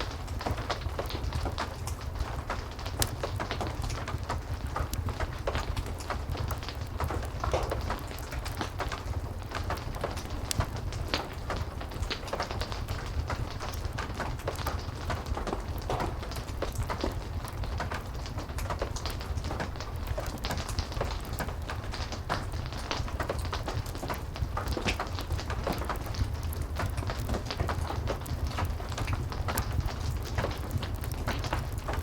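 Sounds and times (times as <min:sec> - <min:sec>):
fireplace crackling and popping: 0:00.0 - 0:32.0
heavy rain: 0:00.0 - 0:32.0.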